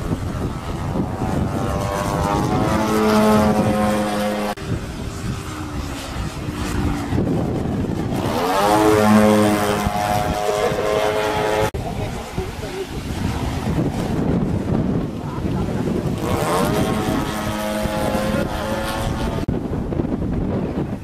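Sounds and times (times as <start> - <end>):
model airplane motor throttling: 0.0 - 19.5
wind buffeting microphone: 0.0 - 21.0.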